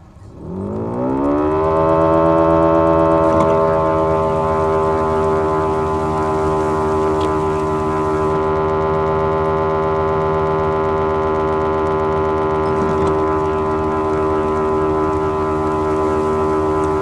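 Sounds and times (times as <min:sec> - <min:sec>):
forage harvester mechanical whine: 0:00.0 - 0:17.0.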